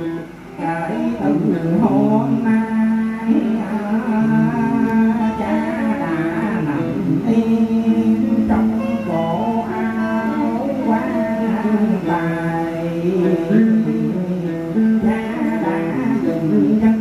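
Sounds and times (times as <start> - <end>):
person singing: 0.0 - 17.0
plucked guitar: 0.0 - 17.0.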